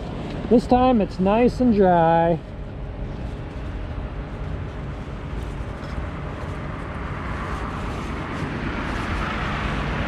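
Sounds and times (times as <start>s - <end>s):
vehicle rumble with hiss: 0.0s - 10.0s.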